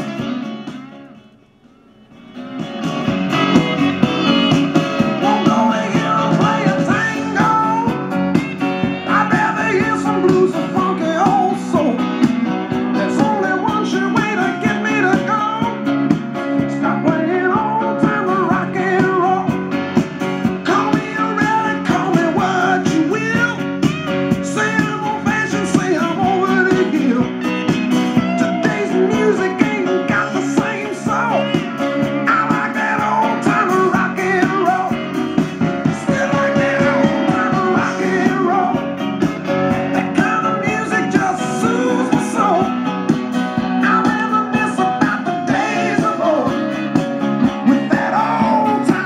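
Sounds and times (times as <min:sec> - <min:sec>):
song with guitar and singing: 0:00.0 - 0:49.0.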